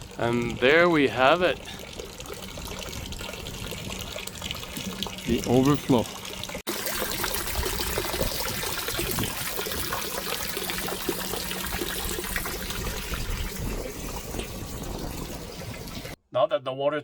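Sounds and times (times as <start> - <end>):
water spilling and trickling: 0.0 - 16.2.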